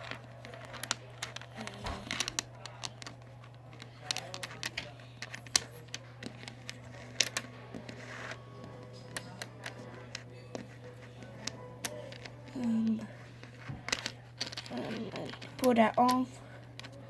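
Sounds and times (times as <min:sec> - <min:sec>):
magnetic balls clicking together: 0:00.0 - 0:17.0.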